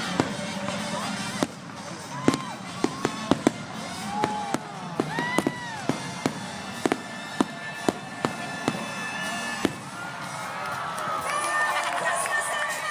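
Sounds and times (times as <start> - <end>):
fireworks whistles: 0.0 - 11.8
fireworks bangs: 0.0 - 12.4.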